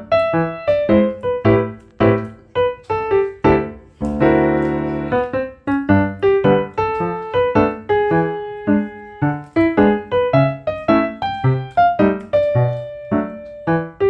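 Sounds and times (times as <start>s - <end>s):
bouncy electric piano tune: 0.0s - 14.0s.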